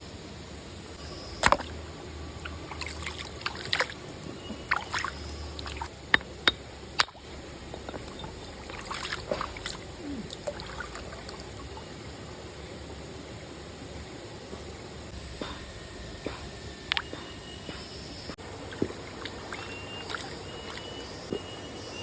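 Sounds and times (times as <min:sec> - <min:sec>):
river water trickling: 0:01.0 - 0:15.1, 0:16.8 - 0:22.0.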